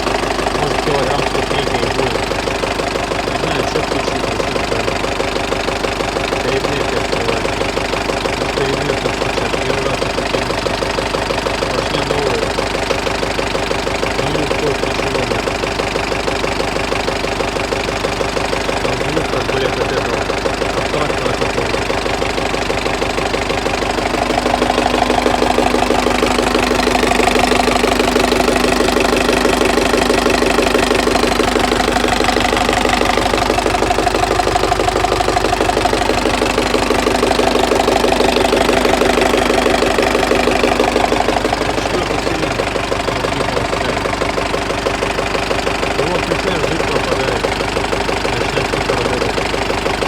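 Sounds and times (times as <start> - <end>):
diesel engine idling with knocking: 0.0 - 50.0.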